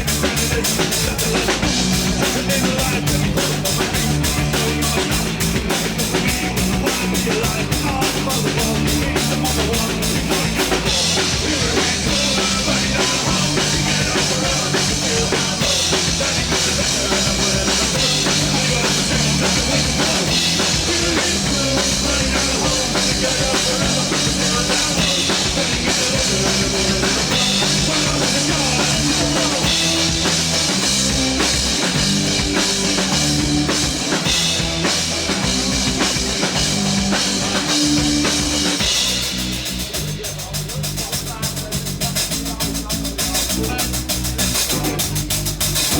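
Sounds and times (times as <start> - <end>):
fast drum strokes: 0.0 - 45.9
rock band playing: 0.0 - 45.9.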